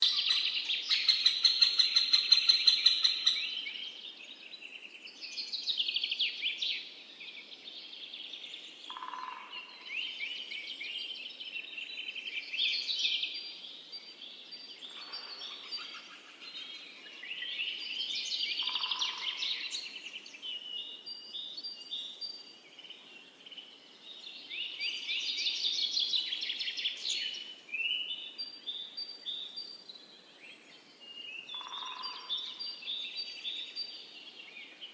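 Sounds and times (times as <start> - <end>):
birds singing: 0.0 - 34.9.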